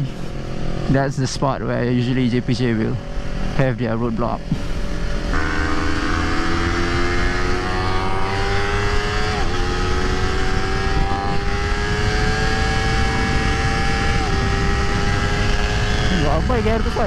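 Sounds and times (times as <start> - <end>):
motorcycle engine under hard throttle: 0.0 - 17.0
wind and road rumble: 0.0 - 17.0.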